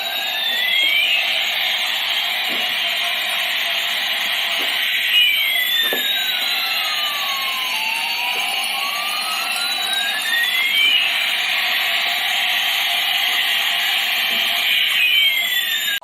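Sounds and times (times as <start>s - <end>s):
toy jet sound effect: 0.0s - 16.0s.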